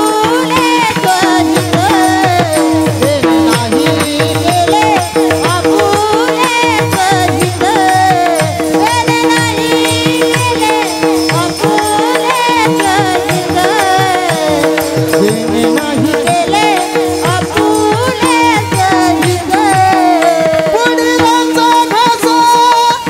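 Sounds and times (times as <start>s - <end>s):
man singing devotional verse: 0.0s - 23.0s.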